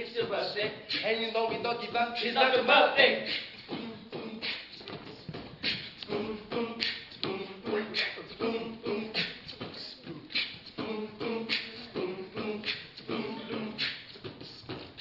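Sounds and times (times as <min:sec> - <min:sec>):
beatboxing: 0:00.0 - 0:15.0.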